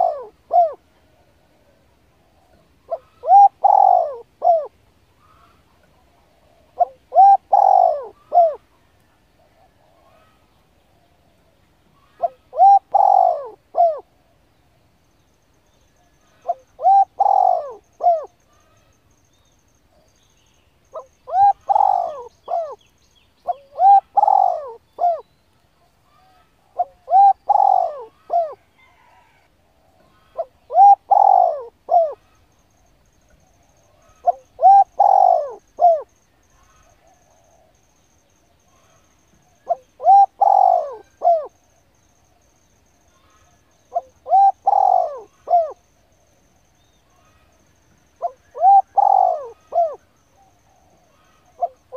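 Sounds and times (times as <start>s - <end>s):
bird calling: 0.0s - 0.9s, 2.3s - 8.7s, 9.4s - 14.5s, 15.7s - 51.9s.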